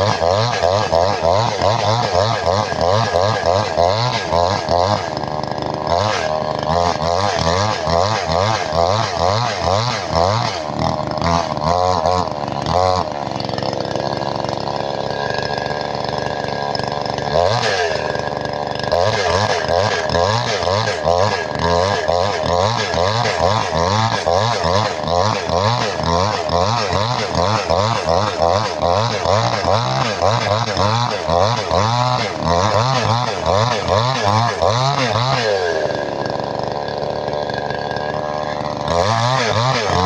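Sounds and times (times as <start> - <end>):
chainsaw revving: 0.0 - 40.0.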